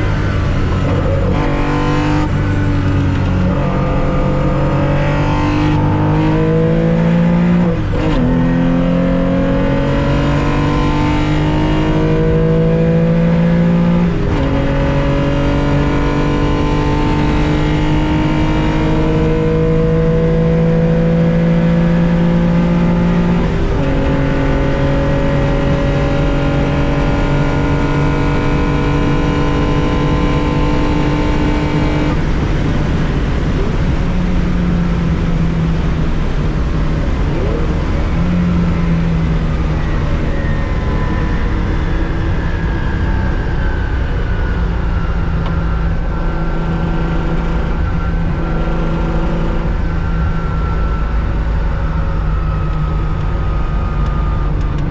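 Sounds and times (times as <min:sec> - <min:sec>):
car engine accelerating hard: 0:00.0 - 0:54.9.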